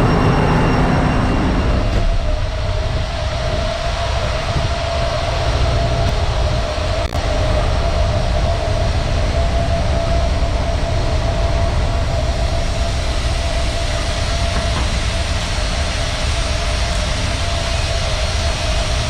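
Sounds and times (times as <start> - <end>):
constant machinery whine: 0.0 - 19.0
engine room machinery rumble: 0.0 - 19.0.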